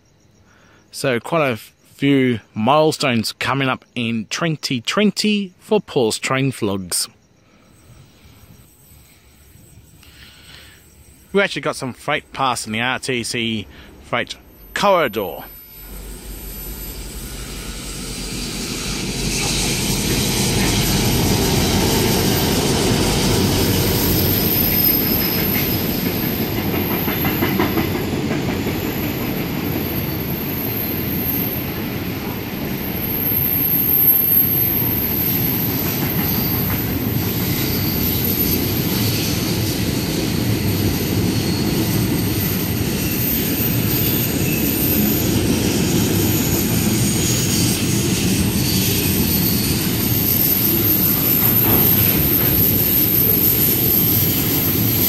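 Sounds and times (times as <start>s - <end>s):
faint high wheel squeal: 7.4s - 55.0s
freight train rumble: 7.8s - 55.0s.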